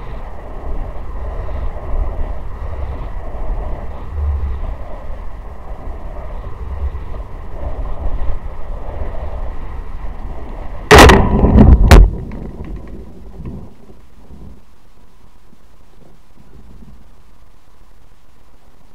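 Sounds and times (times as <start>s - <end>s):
wind rumbling over microphone: 0.0s - 14.8s, 15.9s - 17.2s.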